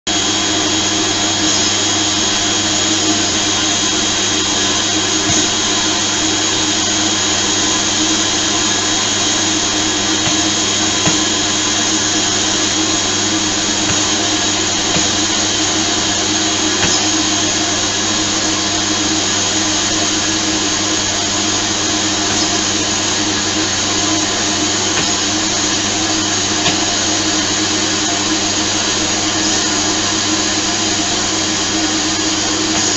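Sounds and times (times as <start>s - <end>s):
vacuum cleaner running: 0.1s - 32.9s.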